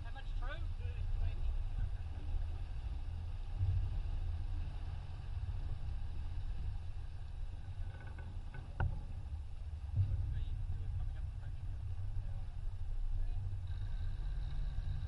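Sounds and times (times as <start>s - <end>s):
boat rushing through water: 0.0s - 15.0s
wind buffeting microphone: 0.0s - 15.0s.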